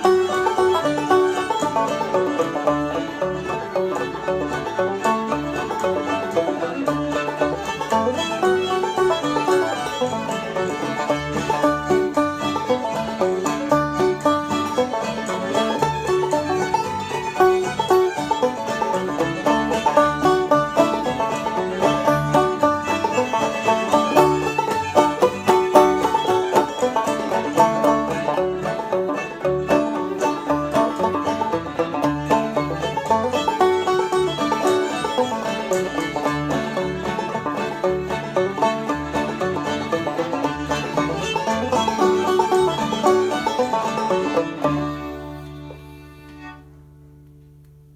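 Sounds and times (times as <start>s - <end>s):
picked string instrument: 0.0s - 47.9s.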